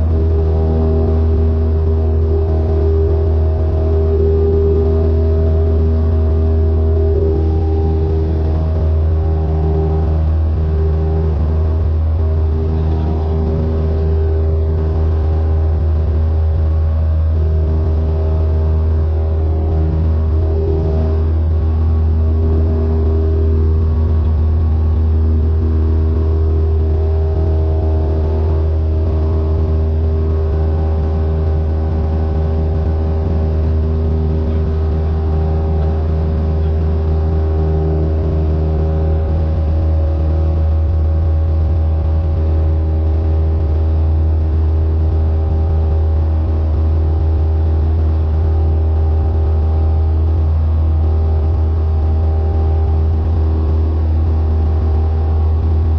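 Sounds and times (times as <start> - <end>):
airplane engine and propeller drone: 0.0 - 55.9.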